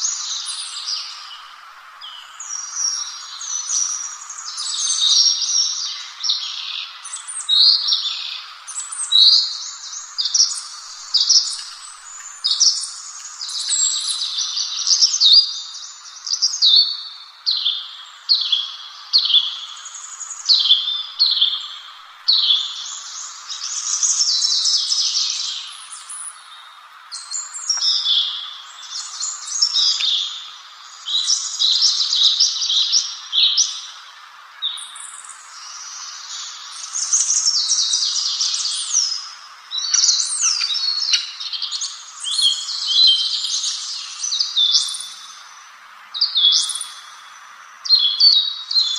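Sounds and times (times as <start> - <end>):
faint steady hiss: 0.0 - 48.9
songbird chirps and trills: 0.0 - 48.9.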